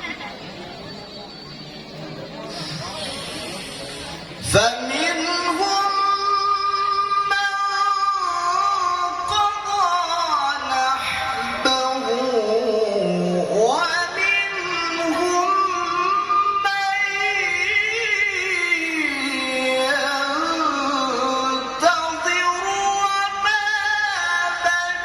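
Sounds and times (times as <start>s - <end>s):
man chanting recitation: 4.4s - 25.0s.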